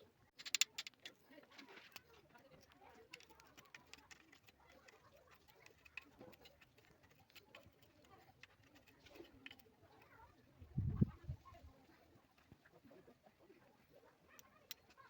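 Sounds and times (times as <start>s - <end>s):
faint ticks and clicks: 0.3s - 15.0s.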